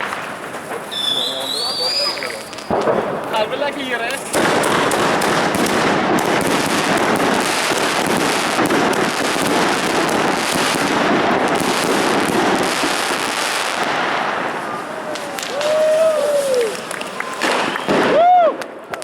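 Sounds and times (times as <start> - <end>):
firecrackers and fireworks banging: 0.0 - 19.0.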